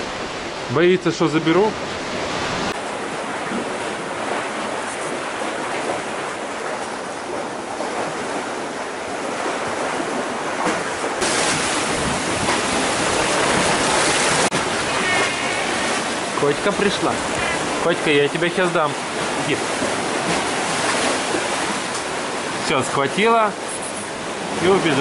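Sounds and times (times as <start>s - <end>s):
surf washing against shore: 0.0s - 25.0s.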